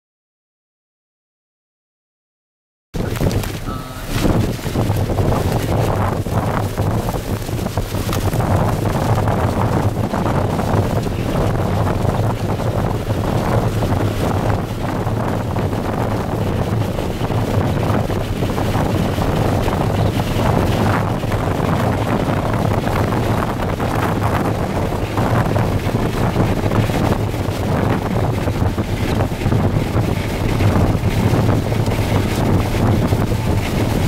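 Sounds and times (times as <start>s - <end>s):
driving rain on vehicle: 3.0s - 34.0s
strong wind rushing: 3.0s - 34.0s
wind buffeting microphone: 3.0s - 34.0s.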